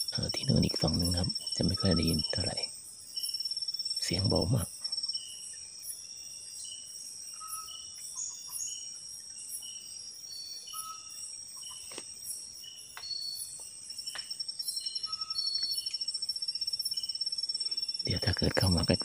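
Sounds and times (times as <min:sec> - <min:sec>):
crickets trilling: 0:00.0 - 0:19.0
short insect chirps: 0:00.0 - 0:19.0.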